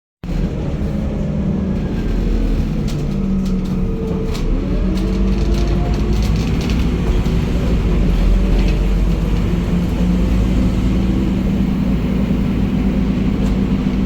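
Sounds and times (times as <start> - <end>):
bus diesel engine running: 0.2 - 14.0.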